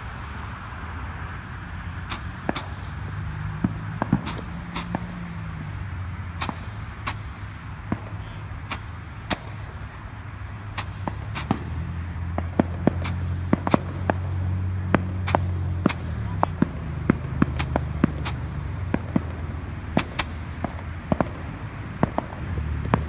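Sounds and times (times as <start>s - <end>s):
fireworks popping: 0.0s - 1.0s, 2.0s - 23.0s
steady low hum: 0.0s - 23.0s.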